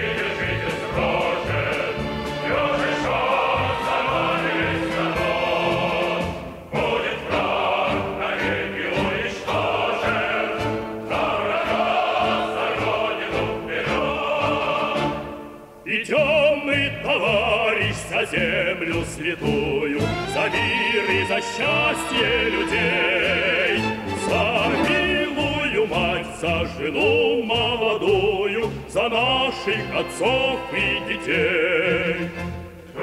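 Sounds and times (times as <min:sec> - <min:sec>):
march music for choir and orchestra: 0:00.0 - 0:33.0.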